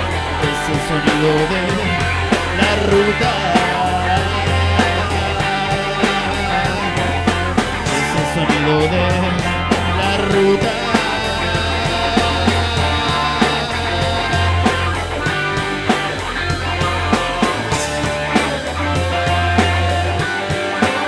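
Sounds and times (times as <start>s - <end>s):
instrumental rock band: 0.0s - 21.0s
steady drum beat: 0.0s - 21.0s.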